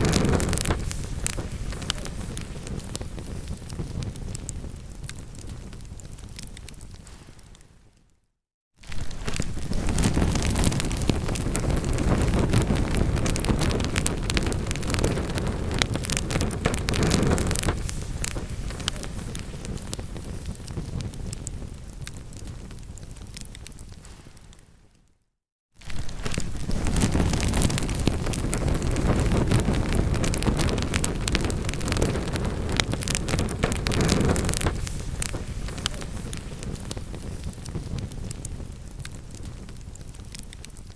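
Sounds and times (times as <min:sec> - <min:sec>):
low rumble of flames: 0:00.0 - 0:08.0, 0:08.8 - 0:24.6, 0:25.8 - 0:40.9
fireplace fire crackling: 0:00.0 - 0:08.1, 0:08.8 - 0:25.0, 0:25.8 - 0:40.9.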